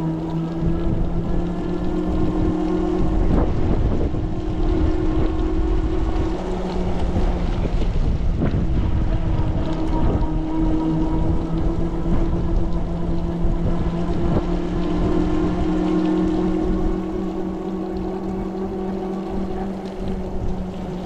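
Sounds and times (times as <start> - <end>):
electric motor whine: 0.0 - 21.0
tyres hissing on wet pavement: 0.0 - 21.0
wind buffeting microphone: 0.0 - 21.0.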